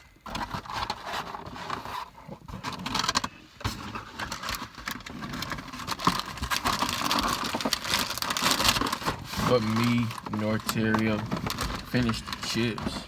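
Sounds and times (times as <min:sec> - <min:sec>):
rustling and scraping handling noise: 0:00.0 - 0:13.0.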